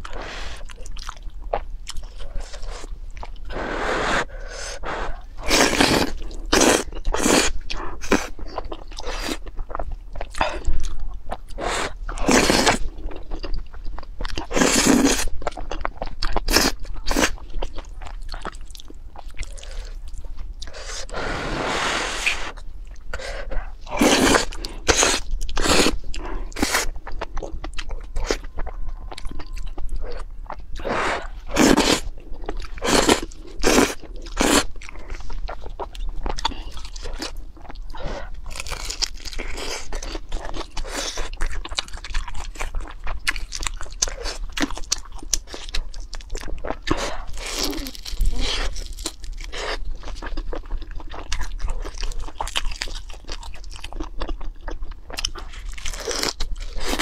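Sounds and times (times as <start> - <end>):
crunchy bites and chewing: 4.8 - 21.2, 22.3 - 57.0.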